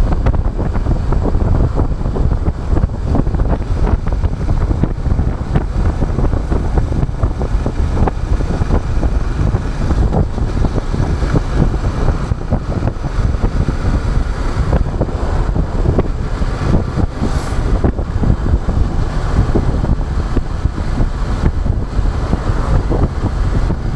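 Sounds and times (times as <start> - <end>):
motorcycle engine running: 0.0 - 23.9
wind buffeting microphone: 0.0 - 23.9.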